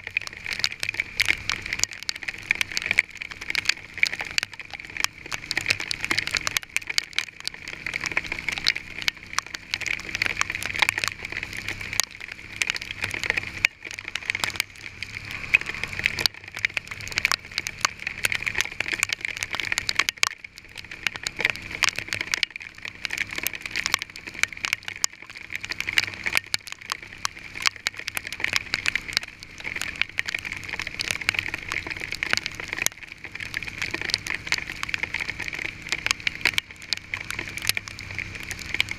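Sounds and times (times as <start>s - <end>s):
hail pelting a vehicle: 0.0s - 38.9s.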